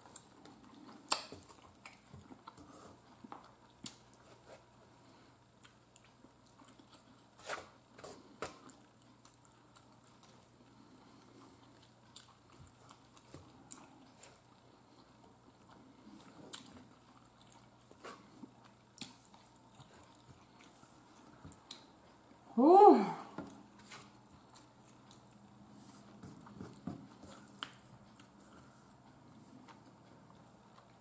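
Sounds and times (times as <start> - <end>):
soft chewing: 0.0 - 22.5, 23.2 - 31.0
faint steady low hum: 0.0 - 31.0.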